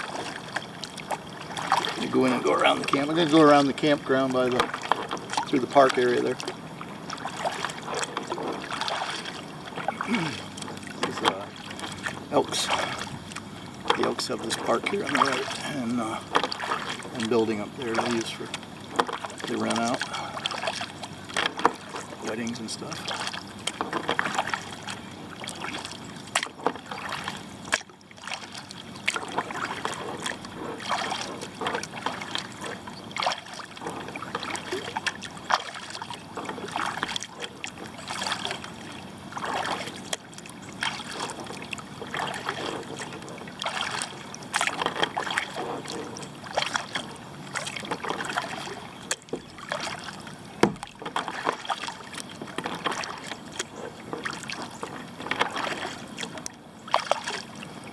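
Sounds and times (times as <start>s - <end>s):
paddle splashing in water: 0.0s - 57.9s.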